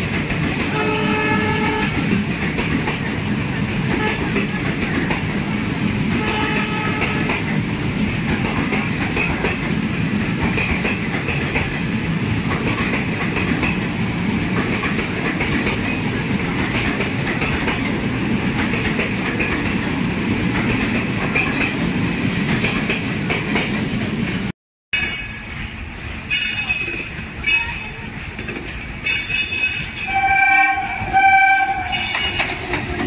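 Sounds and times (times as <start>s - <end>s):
wheels clacking over rail joints: 0.0s - 24.4s, 25.0s - 33.0s
train coaches rumbling past: 0.0s - 33.0s.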